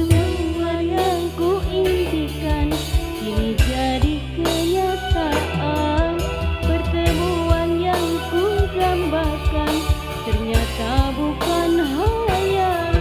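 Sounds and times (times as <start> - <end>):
bass and drum backing: 0.0 - 13.0
woman singing into microphone: 0.0 - 13.0.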